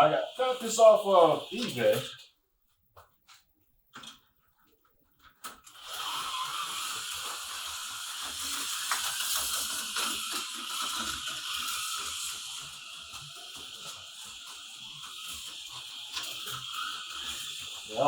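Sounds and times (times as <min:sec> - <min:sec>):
slot car motor whirring: 0:00.0 - 0:02.2, 0:05.7 - 0:18.0.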